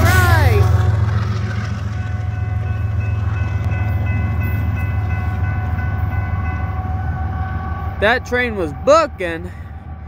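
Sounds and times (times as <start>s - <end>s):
diesel train rumbling: 0.0s - 10.0s.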